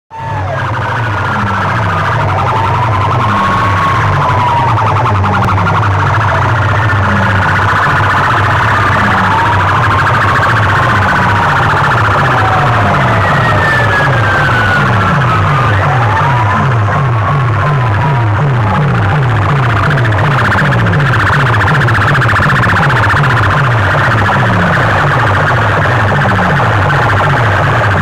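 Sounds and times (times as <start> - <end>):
loudspeakers blaring electronic siren: 0.1 - 28.0
stepped bass pulse: 0.4 - 28.0.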